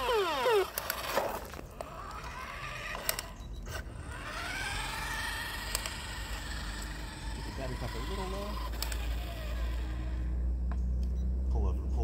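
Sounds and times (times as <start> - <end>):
toy car electric motor whining: 0.0 - 10.5.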